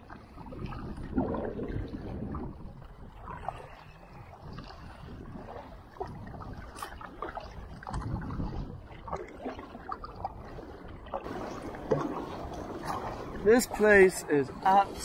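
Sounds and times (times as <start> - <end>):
paddle strokes splashing: 0.0 - 15.0
water sloshing against hull: 0.0 - 15.0.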